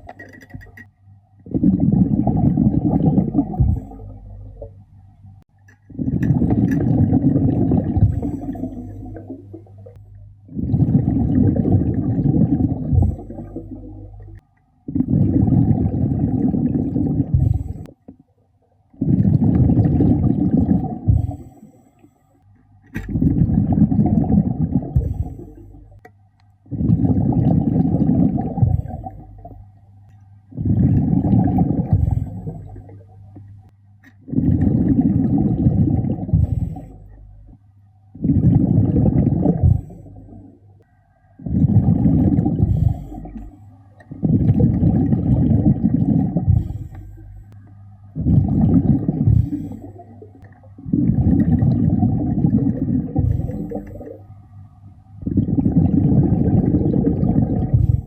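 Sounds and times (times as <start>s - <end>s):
underwater exhale bubbling: 1.4s - 4.9s, 5.8s - 18.3s, 18.9s - 22.2s, 23.0s - 26.0s, 26.6s - 29.8s, 30.4s - 33.4s, 34.2s - 54.6s, 55.2s - 58.0s.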